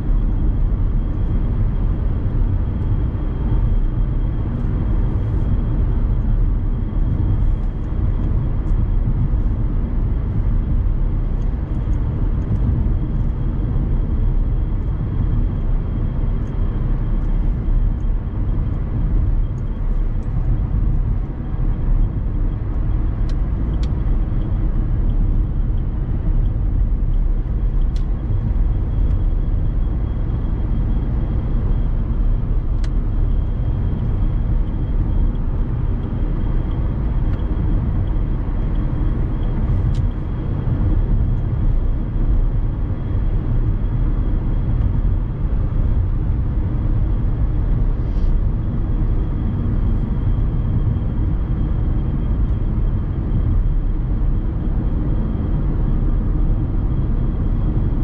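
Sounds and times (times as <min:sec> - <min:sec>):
diesel car engine running: 0:00.0 - 0:58.0
road and tyre noise: 0:00.0 - 0:58.0.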